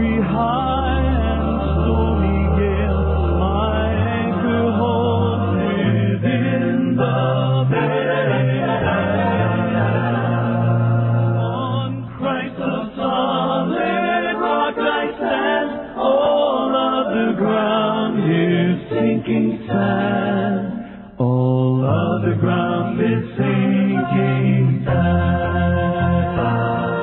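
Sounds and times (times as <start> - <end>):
vocal group singing in harmony: 0.0 - 27.0.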